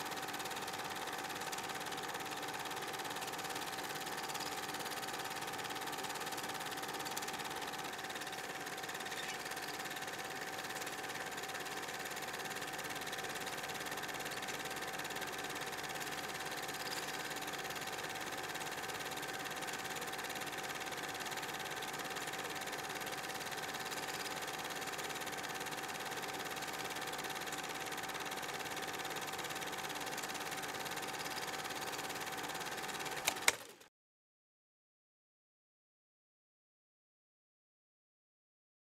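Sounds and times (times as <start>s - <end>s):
mechanical whirring hum: 0.0s - 33.8s.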